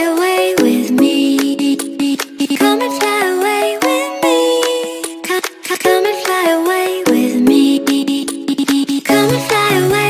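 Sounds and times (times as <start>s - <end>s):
pop song with steady beat: 0.0s - 10.0s.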